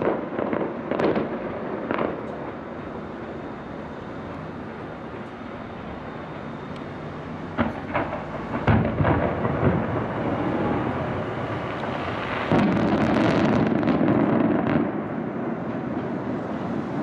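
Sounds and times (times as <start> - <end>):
fireworks crackling and rumbling: 0.0 - 17.0.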